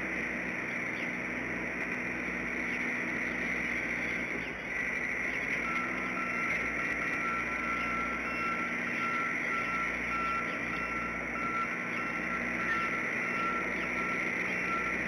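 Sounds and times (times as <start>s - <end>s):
distant reversing alarm beeping: 0.0s - 15.0s.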